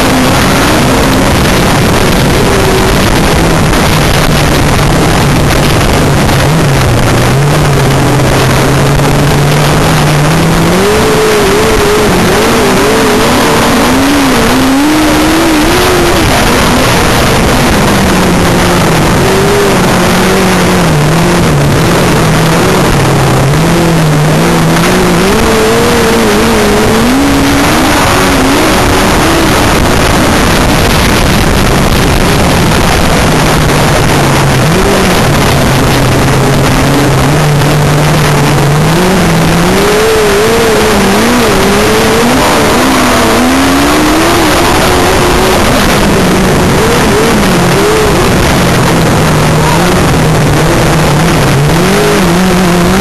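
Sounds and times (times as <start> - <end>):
racing sidecar engine: 0.0 - 53.0
rushing wind: 0.0 - 53.0.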